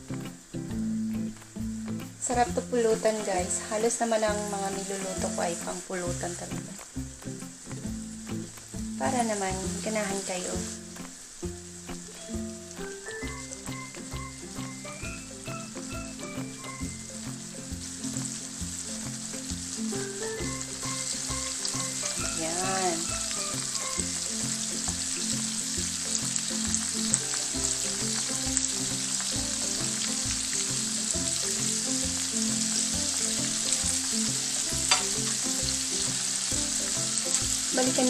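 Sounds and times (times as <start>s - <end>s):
squid deep-frying sizzle: 0.0s - 38.0s.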